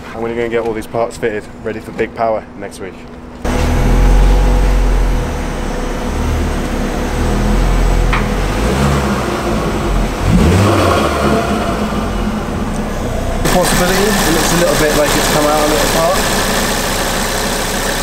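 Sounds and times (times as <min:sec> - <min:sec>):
car engine revving: 0:03.4 - 0:18.0.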